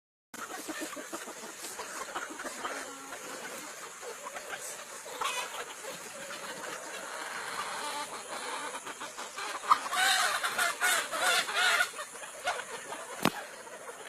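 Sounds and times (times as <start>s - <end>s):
chickens clucking: 0.4s - 14.0s
wavering chicken calls: 0.4s - 14.0s.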